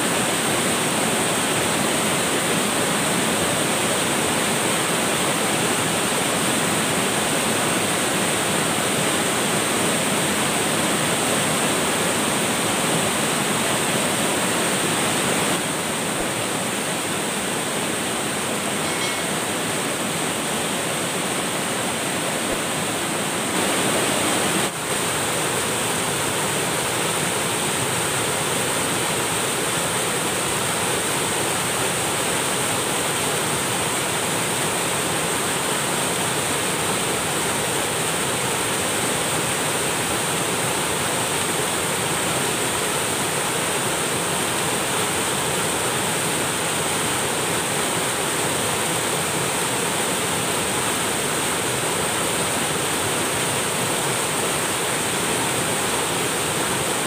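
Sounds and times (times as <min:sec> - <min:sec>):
waterfall rushing over boulders: 0:00.0 - 0:57.0.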